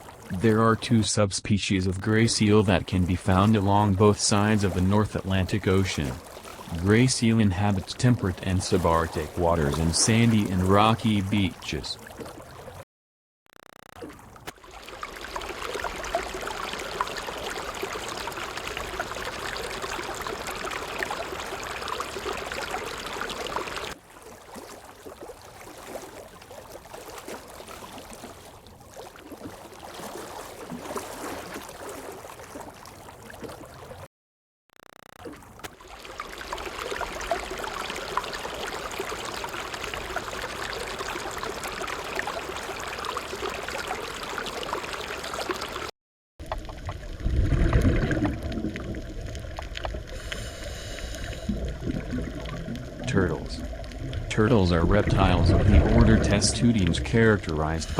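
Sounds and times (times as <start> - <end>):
running water rushing: 0.0 - 1.1, 2.0 - 12.8, 14.2 - 34.0, 35.3 - 45.9, 46.5 - 57.9.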